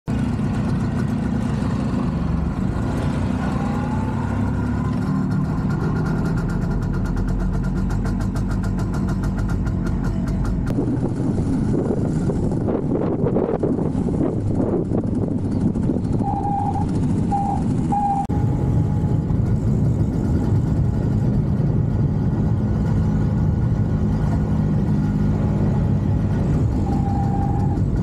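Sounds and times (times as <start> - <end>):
two-stroke motorcycle engine: 0.1 - 28.0.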